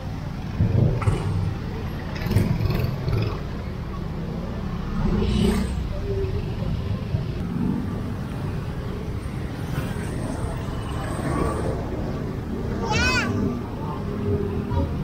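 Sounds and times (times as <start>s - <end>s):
motorcycle engines passing: 0.0s - 15.0s.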